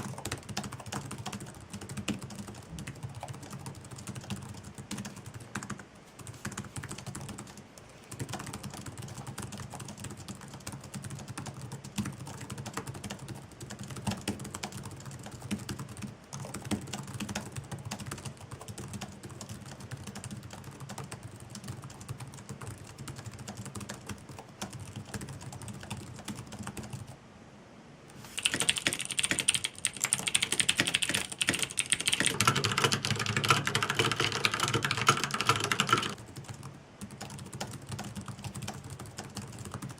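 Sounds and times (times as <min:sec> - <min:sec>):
typing on computer keyboard: 0:00.0 - 0:27.2, 0:28.4 - 0:39.9.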